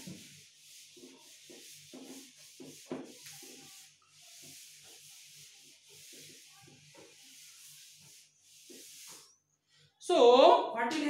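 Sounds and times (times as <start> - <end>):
duster rubbing on chalkboard: 0.0 - 9.4.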